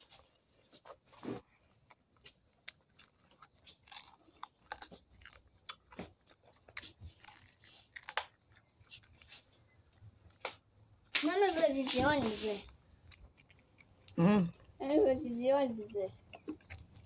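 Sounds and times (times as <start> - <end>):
crunchy food chewing: 0.0 - 11.2, 11.8 - 17.0.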